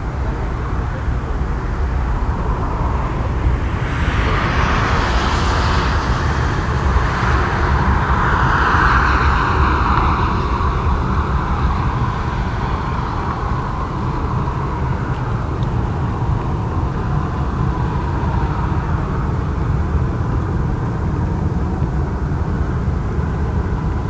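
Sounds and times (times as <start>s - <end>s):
jet engine rush: 0.0s - 24.0s
steady low rumble: 0.0s - 24.0s.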